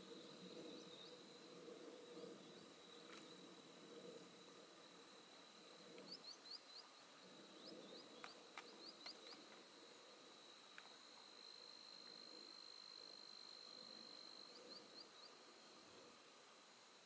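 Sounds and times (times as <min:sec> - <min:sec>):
faint insect trill: 0:00.0 - 0:17.0.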